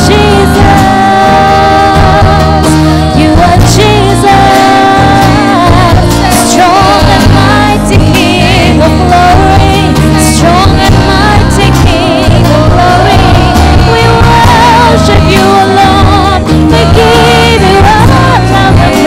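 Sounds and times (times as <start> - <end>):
children singing gospel: 0.0 - 19.0
instrumental accompaniment: 0.0 - 19.0.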